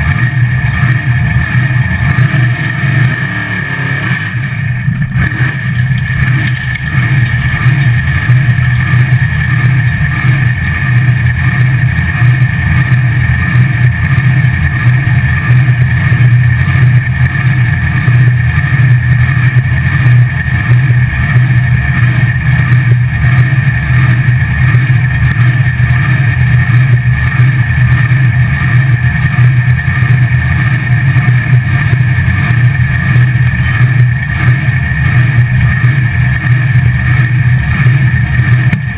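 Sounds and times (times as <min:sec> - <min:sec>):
supercharged engine running: 0:00.0 - 0:38.9.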